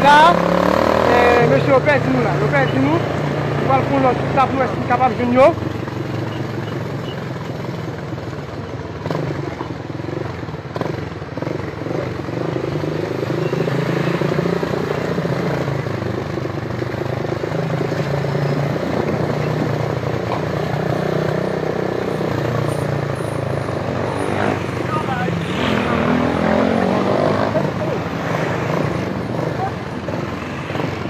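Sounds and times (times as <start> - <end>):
vehicle engines in traffic: 0.0 - 31.0.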